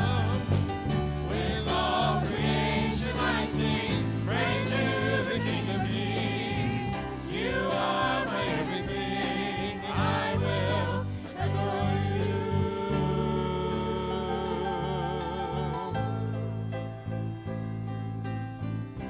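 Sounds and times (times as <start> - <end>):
voices singing together: 0.0 - 16.2
instrumental accompaniment with bass: 0.0 - 19.0.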